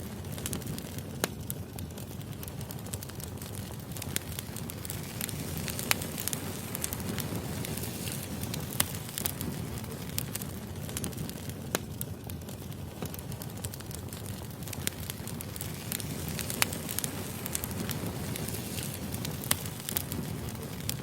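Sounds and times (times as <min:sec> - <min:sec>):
fire rumbling: 0:00.0 - 0:21.0
logs crackling and popping: 0:00.0 - 0:21.0.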